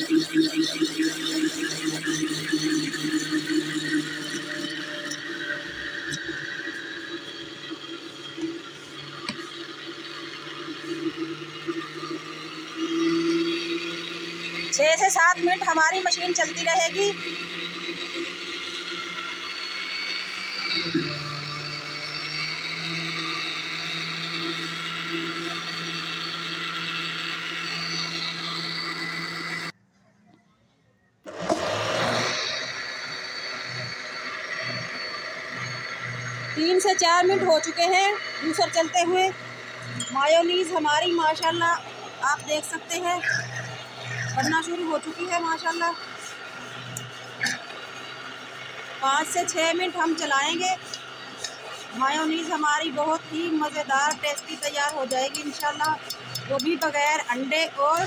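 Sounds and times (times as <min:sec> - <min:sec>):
blender motor running: 0:00.0 - 0:29.8, 0:31.3 - 0:58.0.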